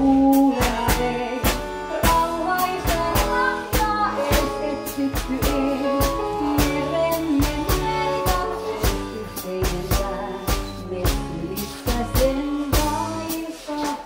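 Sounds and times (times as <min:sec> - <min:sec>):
electric bass guitar: 0:00.0 - 0:13.5
accordion: 0:00.0 - 0:14.0
drum kit beat: 0:00.0 - 0:14.0
woman singing: 0:00.0 - 0:14.0.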